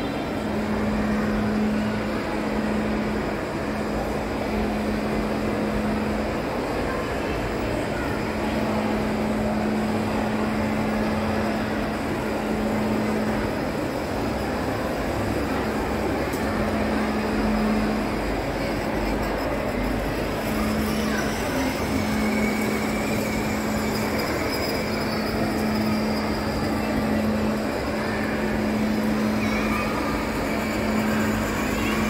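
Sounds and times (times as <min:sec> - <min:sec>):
indistinct crowd chatter: 0:00.0 - 0:32.0
steady low hum: 0:00.0 - 0:32.0.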